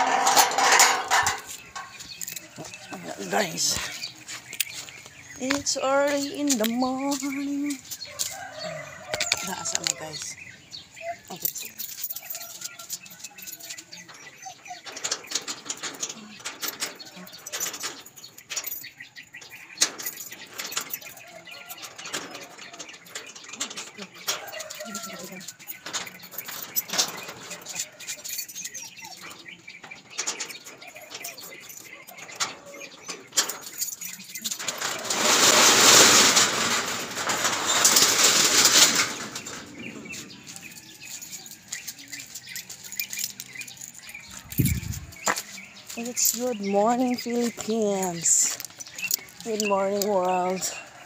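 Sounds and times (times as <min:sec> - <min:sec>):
keys jangling: 0:00.0 - 0:36.7, 0:37.4 - 0:51.0
metal shutter rattling open: 0:00.0 - 0:51.0.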